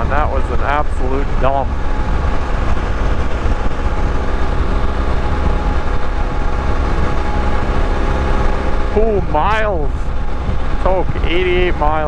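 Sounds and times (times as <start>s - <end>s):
motorcycle engine drone: 0.0s - 12.0s
road noise: 0.0s - 12.0s
rushing wind: 0.0s - 12.0s.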